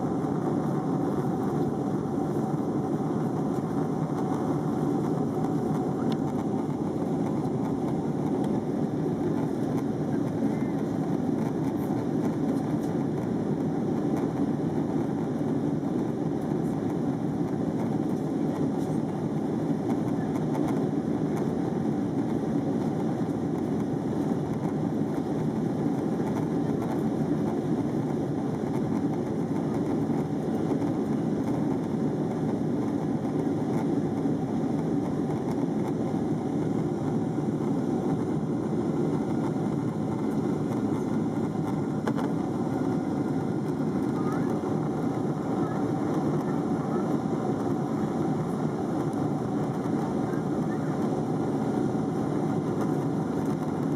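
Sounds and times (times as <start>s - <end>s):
jet engines and airflow in cabin: 0.0s - 53.9s.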